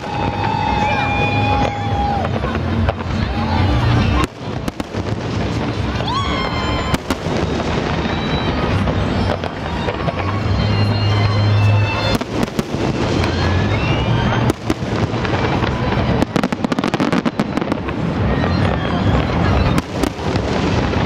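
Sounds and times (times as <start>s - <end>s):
fireworks bursting and crackling: 0.0s - 21.0s
fireworks whistles rising: 0.0s - 21.0s.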